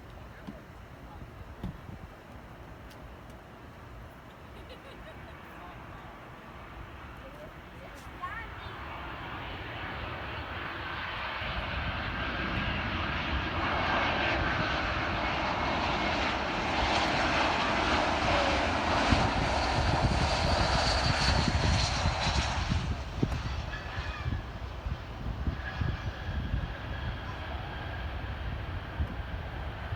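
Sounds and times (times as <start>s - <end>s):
jet airliner engine roar: 3.8s - 29.9s.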